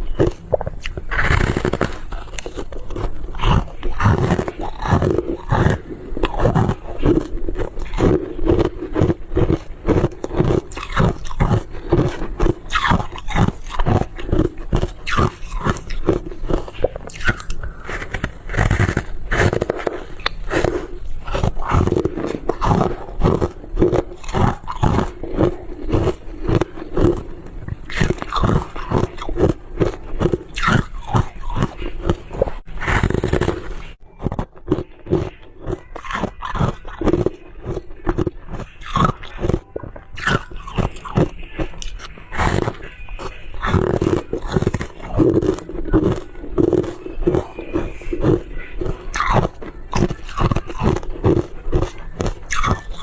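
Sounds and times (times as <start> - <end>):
crunching and chewing ice: 0.0 - 53.0.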